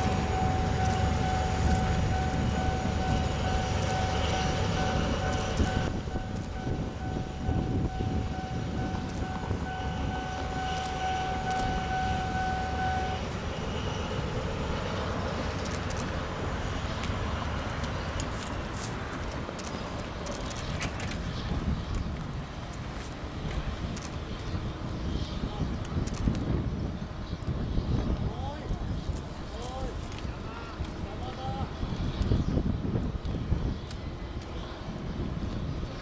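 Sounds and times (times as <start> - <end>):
freight train rumbling: 0.0 - 36.0.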